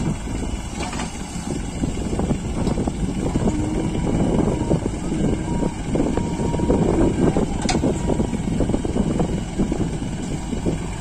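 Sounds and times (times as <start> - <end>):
tractor diesel engine chugging: 0.0 - 11.0.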